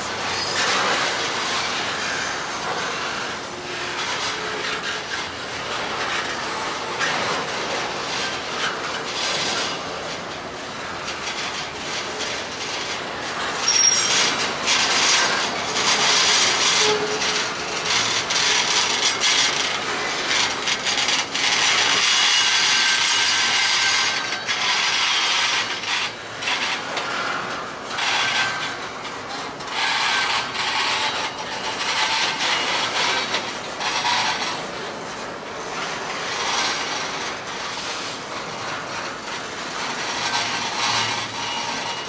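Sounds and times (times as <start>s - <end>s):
freight train wheels grinding on rails: 0.0s - 42.0s.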